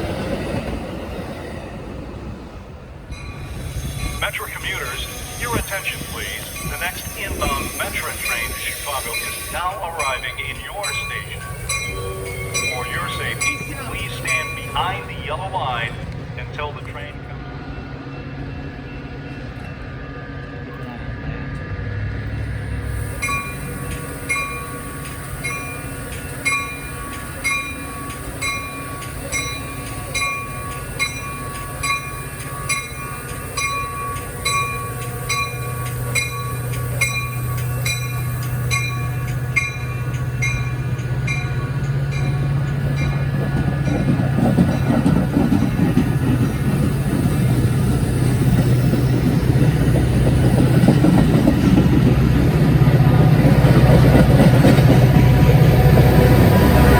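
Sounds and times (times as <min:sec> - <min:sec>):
train rumble: 0:00.0 - 0:56.9
railroad bell dinging: 0:03.1 - 0:56.9.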